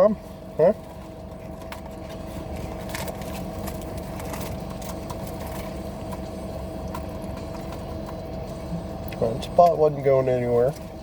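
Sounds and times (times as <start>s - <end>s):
car engine idling: 0.0s - 11.0s
faint hum: 0.0s - 11.0s.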